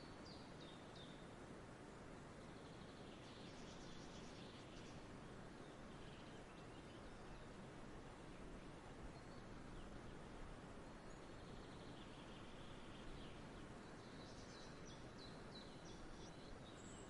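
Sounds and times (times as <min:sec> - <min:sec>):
small birds chirping: 0:00.0 - 0:01.3, 0:01.9 - 0:17.0
soft steady hiss: 0:00.0 - 0:17.0.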